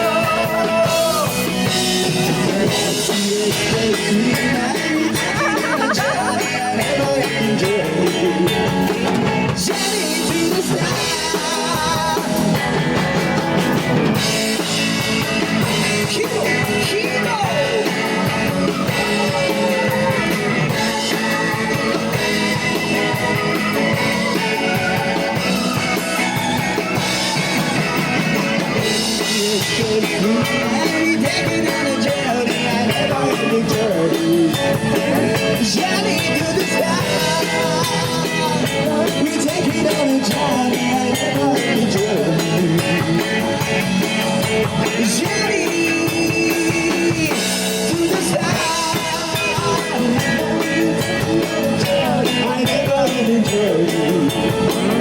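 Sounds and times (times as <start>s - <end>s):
drum kit: 0.0s - 55.0s
guitar: 0.0s - 55.0s
person singing: 0.0s - 55.0s.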